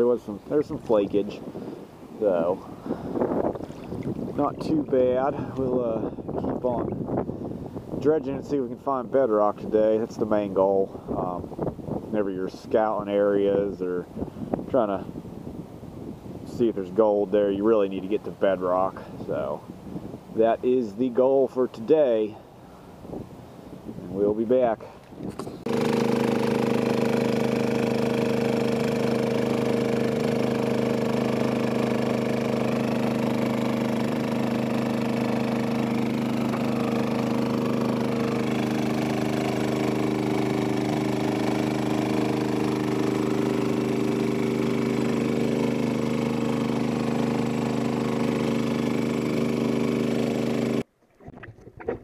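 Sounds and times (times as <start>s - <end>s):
small dredge engine and pump running: 0.0s - 52.0s.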